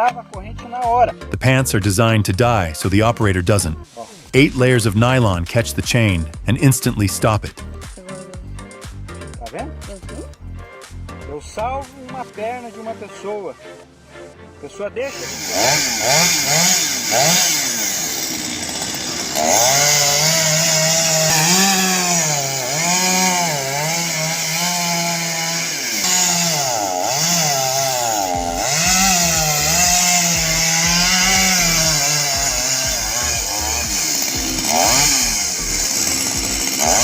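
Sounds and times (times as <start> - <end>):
chainsaw revving and cutting: 1.5 - 3.8, 4.4 - 10.3, 15.1 - 37.0.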